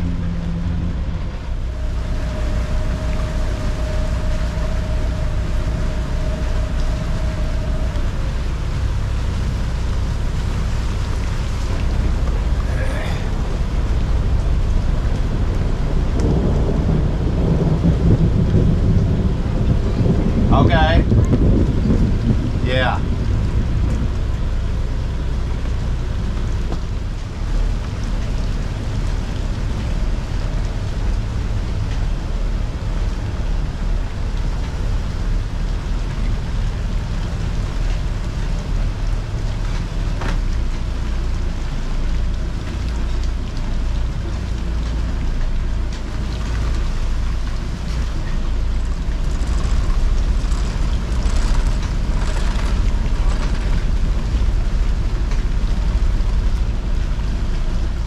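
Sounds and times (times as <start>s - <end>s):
boat engine running: 0.0s - 58.0s
rain and wind: 0.0s - 58.0s.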